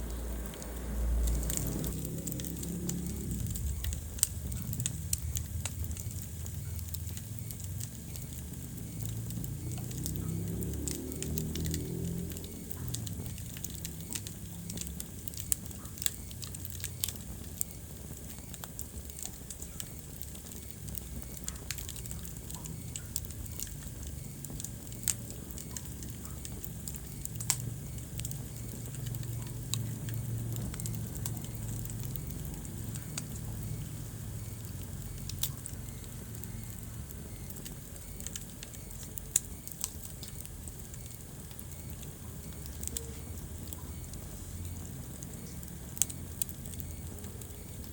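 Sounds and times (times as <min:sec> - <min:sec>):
low rumble of flame: 0:00.0 - 0:47.9
wood fire crackling and popping: 0:00.0 - 0:47.9.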